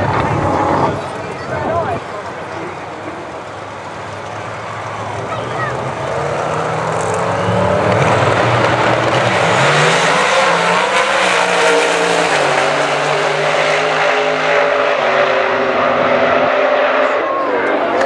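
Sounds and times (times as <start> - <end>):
drag cars at full throttle: 0.0 - 18.0.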